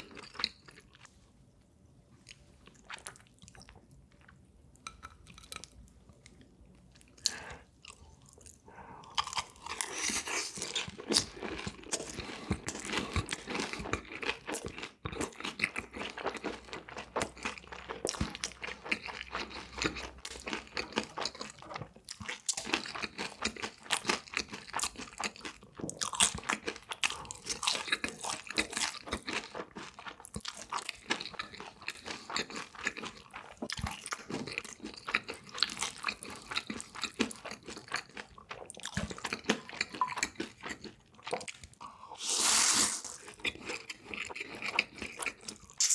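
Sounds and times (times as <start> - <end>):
person chewing crunchy food: 0.0 - 1.1, 2.2 - 4.4, 5.0 - 45.9.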